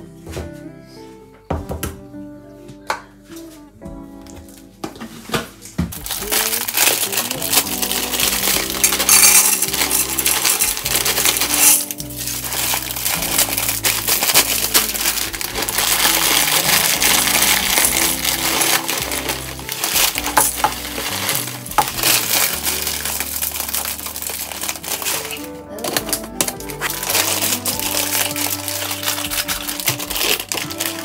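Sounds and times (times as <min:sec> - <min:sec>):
dry pasta rattling into plastic: 0:06.0 - 0:31.0.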